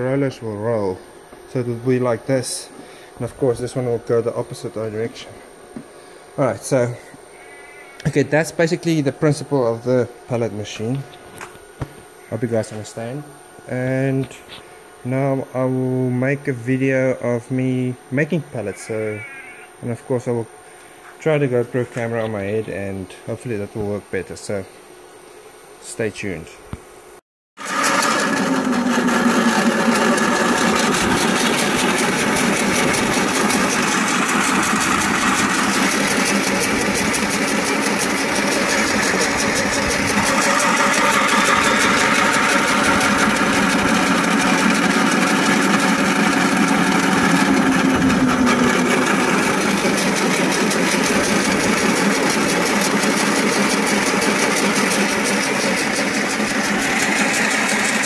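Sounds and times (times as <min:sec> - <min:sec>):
pellet mill machine drone: 0:00.0 - 0:24.1, 0:27.6 - 0:58.0
steady low hum: 0:00.0 - 0:27.2, 0:29.1 - 0:58.0.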